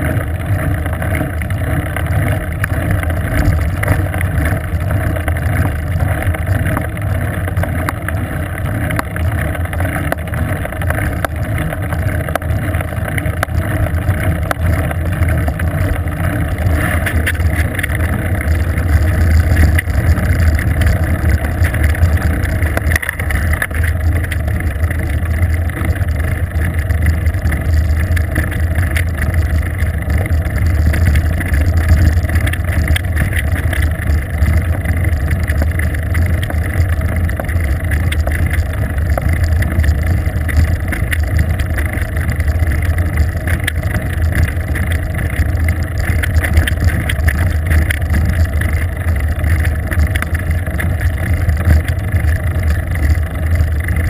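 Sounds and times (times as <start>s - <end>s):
tyres on asphalt: 0.0s - 54.0s.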